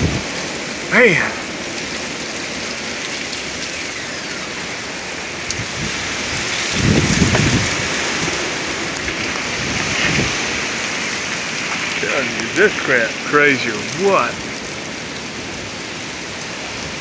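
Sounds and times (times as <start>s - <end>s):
gusty wind: 0.0s - 17.0s
wind buffeting microphone: 0.0s - 17.0s.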